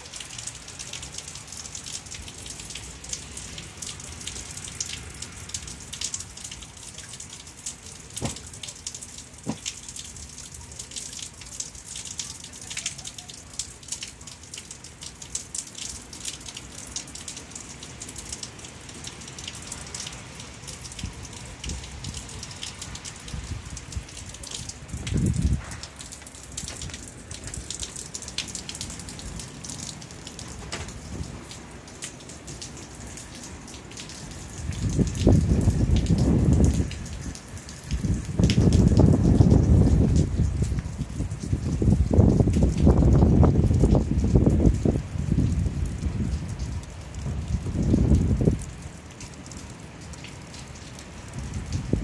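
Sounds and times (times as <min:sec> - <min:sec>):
rain hissing: 0:00.0 - 0:52.0
raindrops ticking on surfaces: 0:00.0 - 0:52.0.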